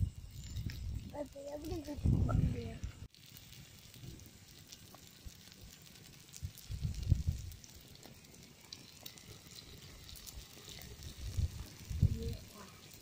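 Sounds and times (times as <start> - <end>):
fish sizzling on hot stone: 0.0 - 13.0
small crackles: 0.0 - 13.0.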